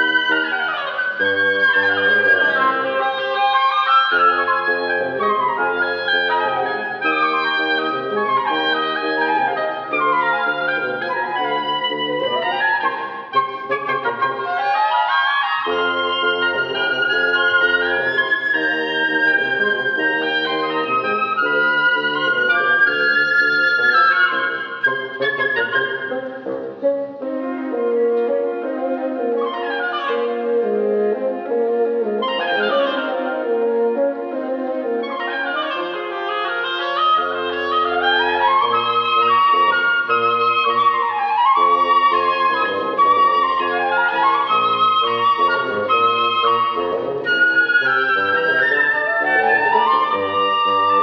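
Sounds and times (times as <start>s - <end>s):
woodwind trio playing: 0.0s - 51.0s.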